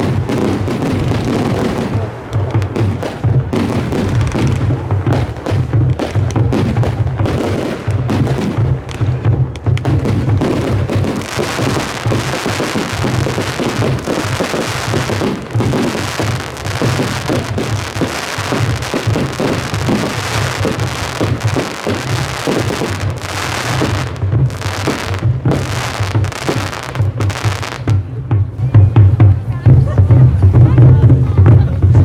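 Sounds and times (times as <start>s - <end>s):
deep drum boom: 0.0s - 32.0s
drum ensemble playing fast: 0.0s - 32.0s.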